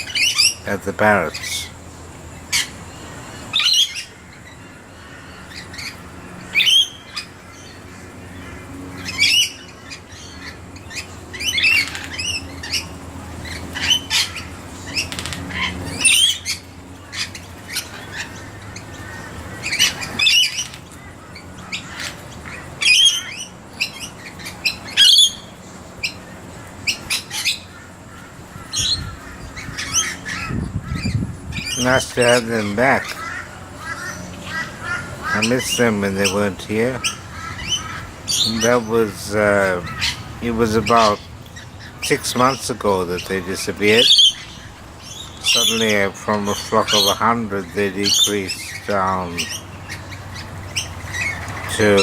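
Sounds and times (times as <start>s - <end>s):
parrots screeching: 0.0s - 52.0s.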